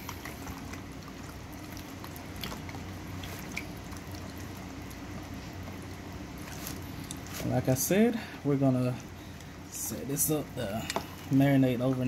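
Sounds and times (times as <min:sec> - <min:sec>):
low steady hum: 0:00.0 - 0:12.0
wet sloshing and dripping: 0:00.0 - 0:12.0.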